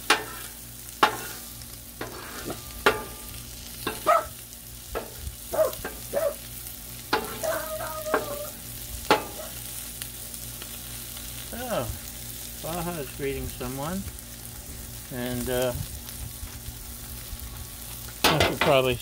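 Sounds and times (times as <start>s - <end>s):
steaks sizzling on a griddle: 0.0s - 19.0s.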